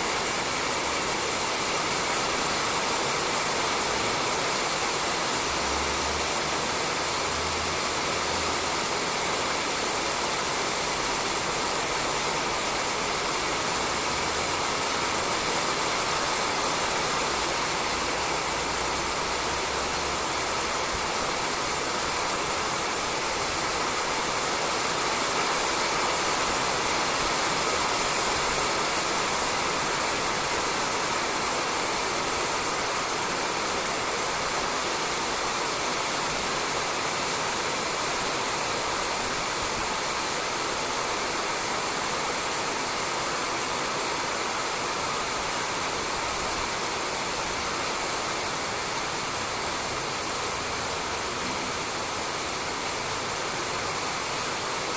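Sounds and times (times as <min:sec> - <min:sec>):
rain falling on a roof: 0:00.0 - 0:54.9.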